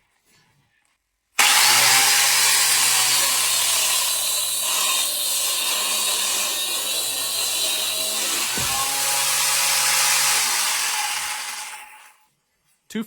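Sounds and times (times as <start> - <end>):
electric chainsaw running: 1.4 - 12.2.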